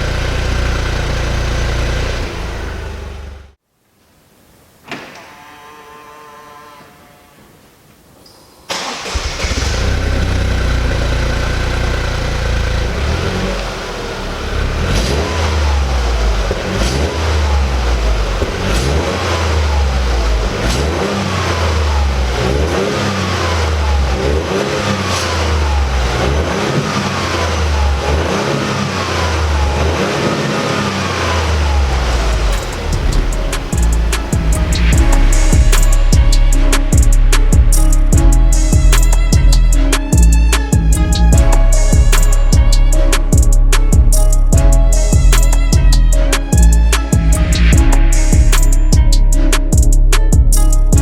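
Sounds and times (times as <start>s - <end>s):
car engine starting and idling: 0.0s - 3.6s, 8.7s - 51.0s.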